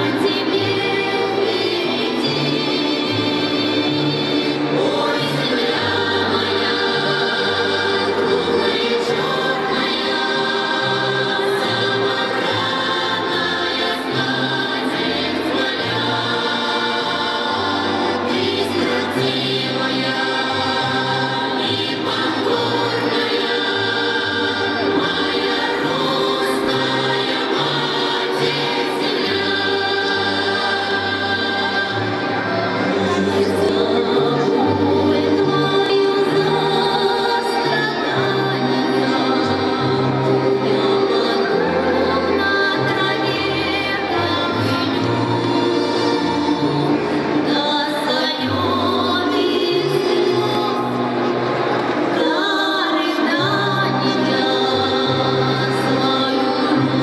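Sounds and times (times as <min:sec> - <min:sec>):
folk choir singing: 0:00.0 - 0:57.0.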